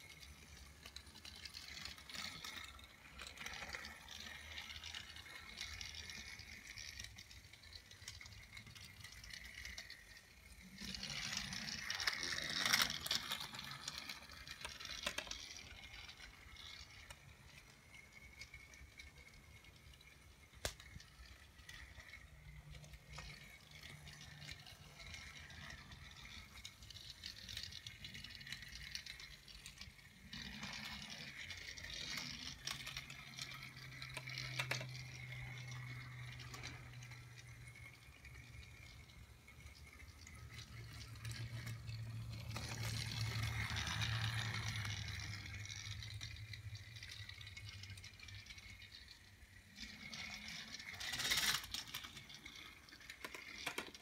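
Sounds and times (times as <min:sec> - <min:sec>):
toy train motor whirring: 0:00.0 - 0:54.0.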